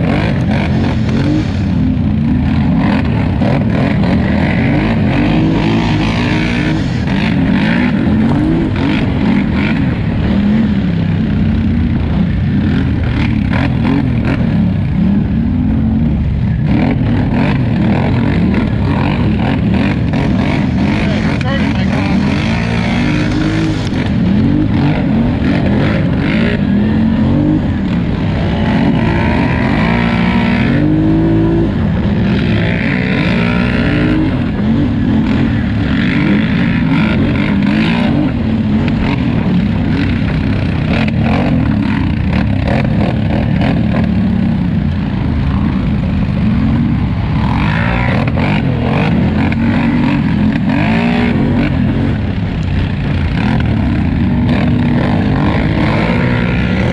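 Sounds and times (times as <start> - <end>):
atv engine revving: 0.0 - 56.9
rush of noise: 0.0 - 56.9.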